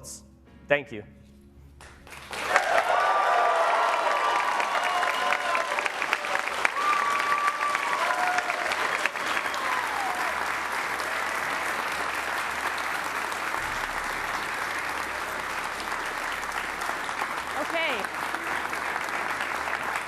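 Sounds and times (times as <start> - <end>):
audience applauding: 2.0 - 20.0.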